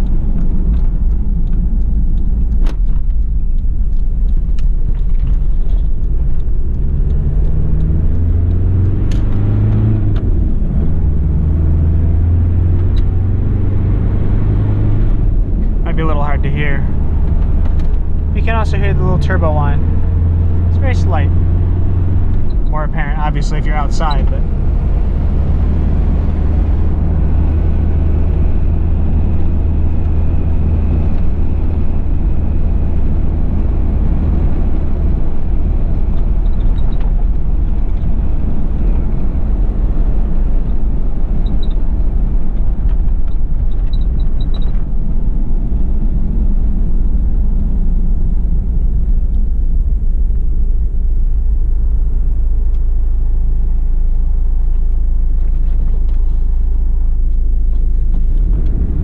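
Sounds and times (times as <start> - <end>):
diesel engine drone: 0.0 - 59.0
road noise: 0.0 - 59.0.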